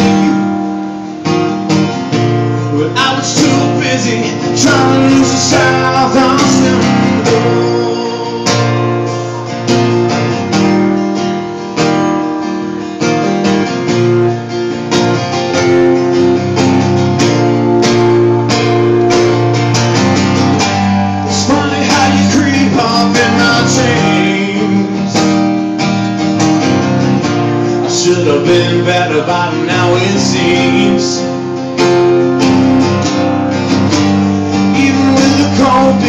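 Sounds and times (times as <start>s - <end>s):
acoustic guitar strumming chords: 0.0s - 36.0s.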